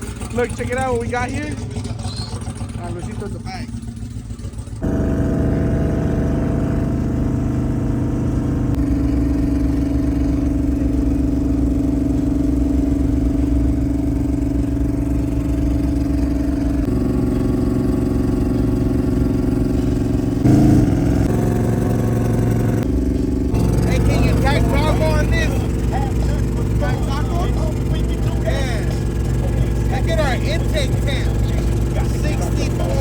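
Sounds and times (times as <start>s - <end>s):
car engine droning: 0.0s - 33.0s.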